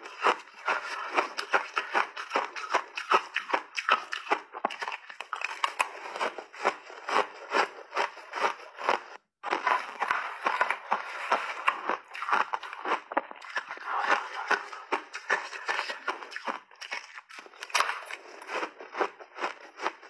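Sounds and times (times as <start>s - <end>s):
chewing crunchy ice: 0.0s - 20.0s.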